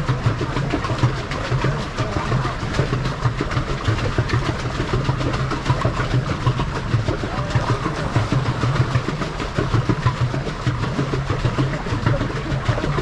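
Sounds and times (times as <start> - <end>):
steady low hum: 0.0 - 13.0
water churning and splashing: 0.0 - 13.0.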